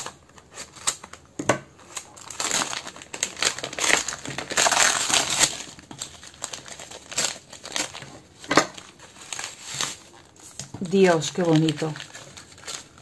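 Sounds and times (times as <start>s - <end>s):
wrapping paper crinkling: 0.0s - 13.0s
sharp paper crackles: 1.8s - 13.0s.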